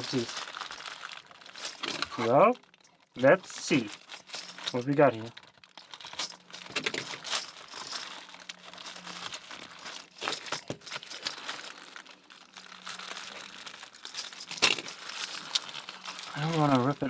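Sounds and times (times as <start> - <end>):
package wrapping crinkling: 0.0 - 17.0.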